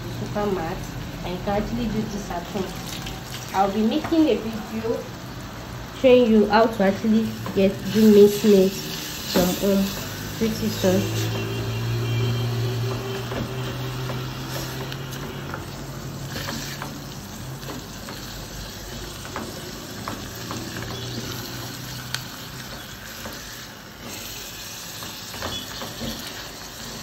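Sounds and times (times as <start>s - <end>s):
meat and onions sizzling: 0.0s - 27.0s.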